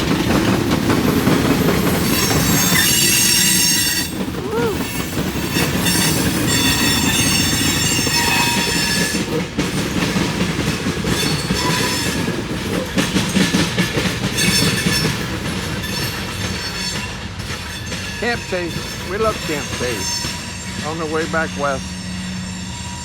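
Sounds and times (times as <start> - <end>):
freight train rumbling past: 0.0 - 23.0
train wheels squealing: 1.1 - 23.0.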